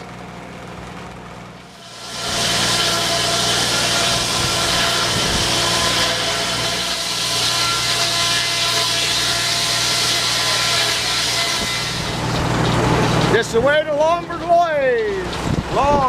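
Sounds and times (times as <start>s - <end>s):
engine hum: 0.0s - 16.0s
saw blade cutting log: 1.7s - 15.3s.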